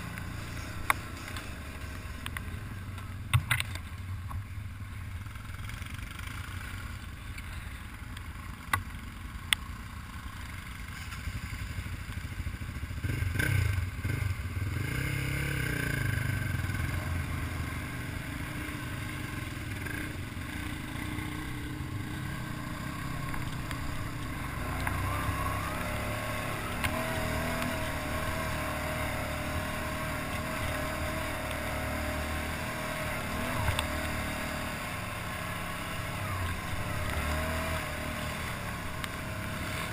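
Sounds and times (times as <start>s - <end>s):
atv engine revving: 5.2s - 39.9s.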